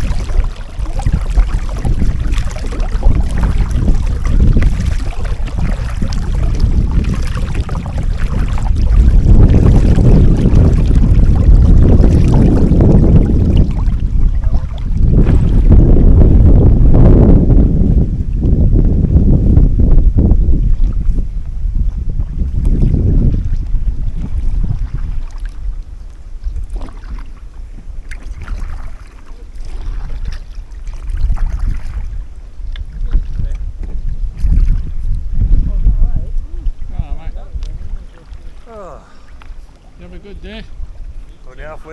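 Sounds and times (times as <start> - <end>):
water sounds: 0.0 - 41.9
wind buffeting microphone: 0.0 - 41.9.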